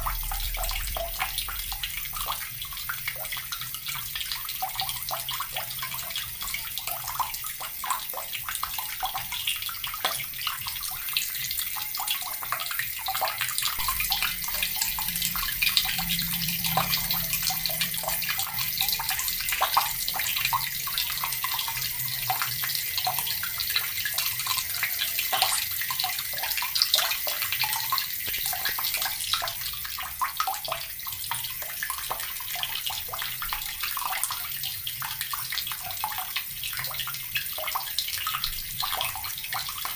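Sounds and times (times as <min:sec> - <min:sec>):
tap water pouring into bucket: 0:00.0 - 0:39.9.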